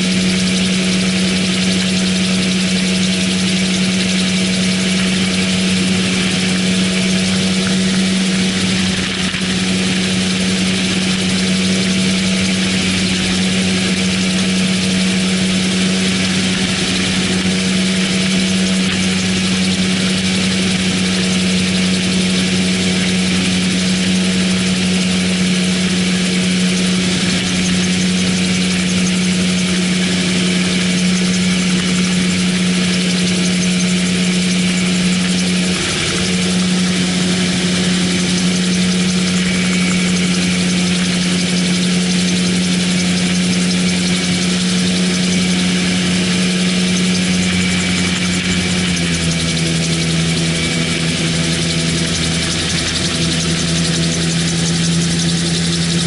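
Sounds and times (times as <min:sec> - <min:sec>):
engine and propeller drone: 0:00.0 - 0:56.0.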